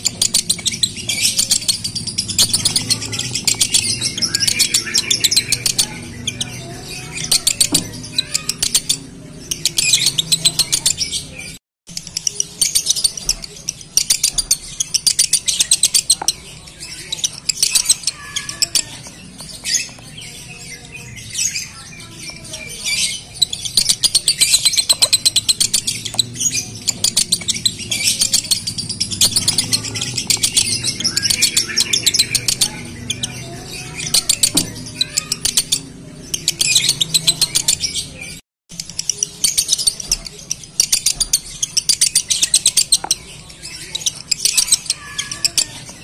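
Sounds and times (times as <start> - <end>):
lovebird chattering trill: 0.0 - 46.0.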